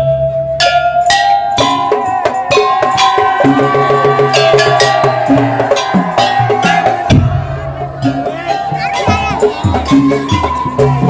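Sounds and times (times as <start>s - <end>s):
wooden slit drums and drums: 0.6s - 11.0s.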